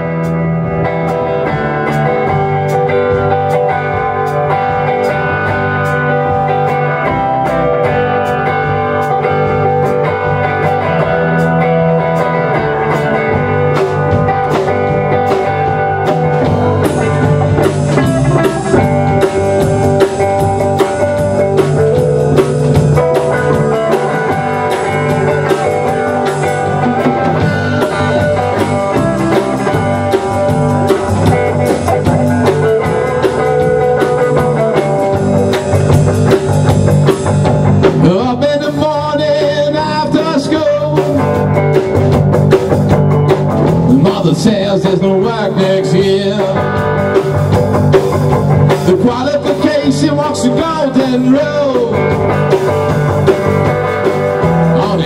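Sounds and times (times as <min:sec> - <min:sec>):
drum kit: 0:00.0 - 0:55.0
electric guitars playing blues-rock: 0:00.0 - 0:55.0.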